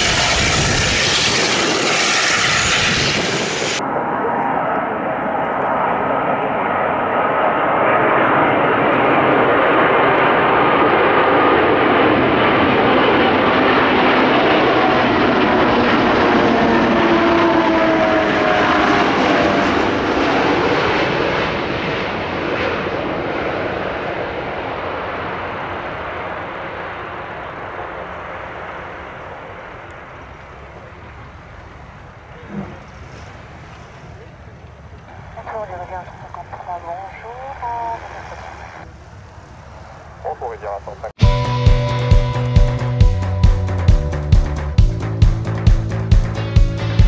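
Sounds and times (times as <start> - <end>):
jet airliner roaring past: 0.0 - 47.0
jet engine whine: 0.0 - 47.0.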